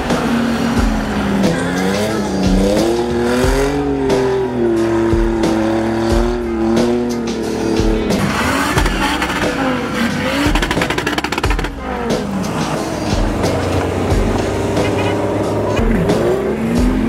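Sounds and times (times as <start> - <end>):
car engine revving hard: 0.0 - 17.0
music with a steady beat: 0.0 - 17.0.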